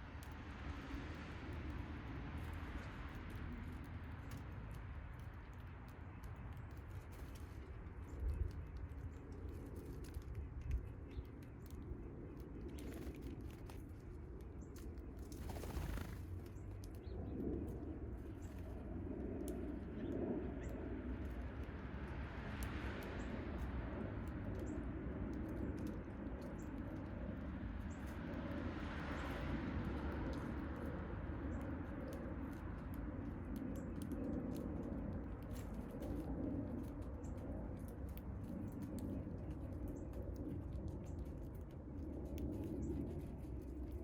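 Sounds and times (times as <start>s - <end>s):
low outdoor rumble: 0.0s - 44.0s.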